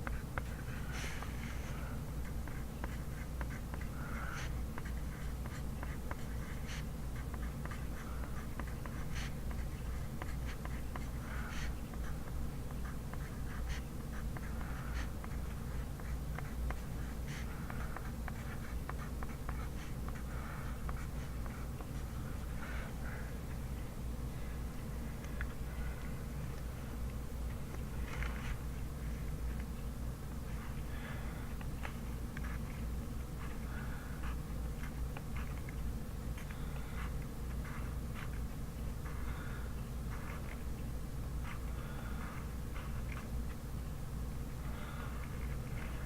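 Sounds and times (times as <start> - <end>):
pencil writing on paper: 0.0 - 23.6, 27.5 - 29.7, 30.4 - 43.6
steady low hum: 0.0 - 46.0.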